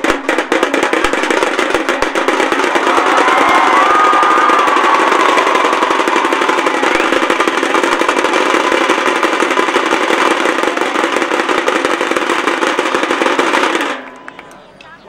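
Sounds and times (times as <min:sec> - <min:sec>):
dhol drum strokes: 0:00.0 - 0:14.1
tasha drums rolling: 0:00.0 - 0:14.6.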